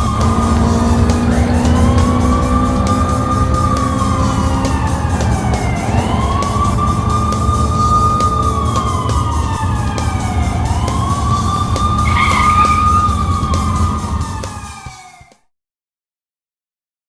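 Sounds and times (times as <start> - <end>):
low engine rumble: 0.0 - 15.1
emergency vehicle siren wailing: 0.0 - 15.4.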